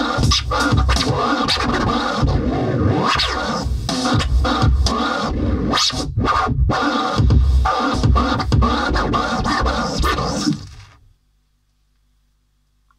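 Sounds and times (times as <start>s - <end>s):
electronic beat with heavy bass: 0.0s - 10.8s
turntable scratching: 0.0s - 11.1s.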